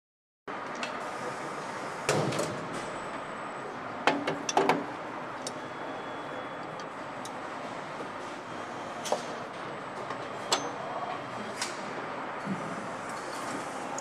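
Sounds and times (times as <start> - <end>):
assembly hall background noise: 0.5 - 14.0.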